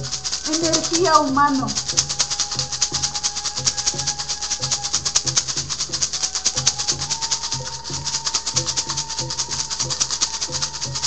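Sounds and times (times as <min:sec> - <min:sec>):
hand rattle shaken rapidly: 0:00.0 - 0:11.0.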